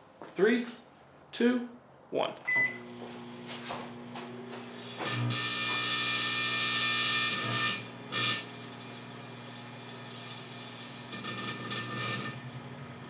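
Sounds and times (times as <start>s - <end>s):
microwave oven humming: 2.5s - 13.0s.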